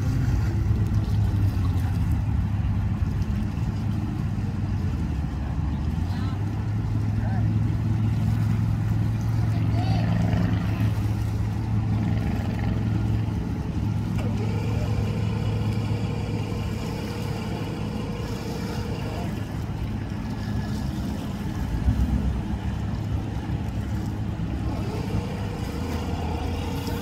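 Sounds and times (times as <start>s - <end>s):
outboard motor idling: 0.0s - 27.0s.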